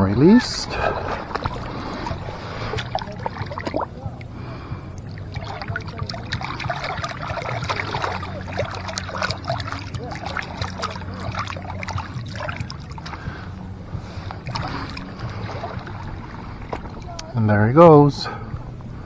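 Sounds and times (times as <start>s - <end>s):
water splashing around legs: 0.0s - 17.5s.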